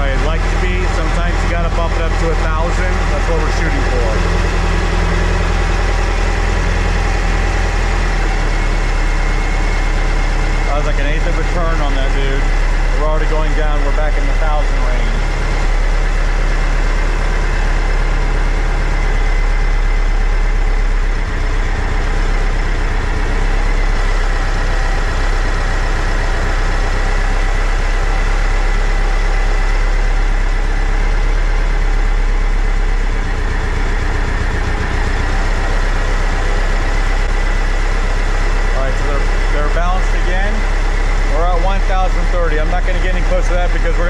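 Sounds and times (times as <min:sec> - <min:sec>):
engine idling: 0:00.0 - 0:44.0
steady high whine: 0:00.0 - 0:44.0.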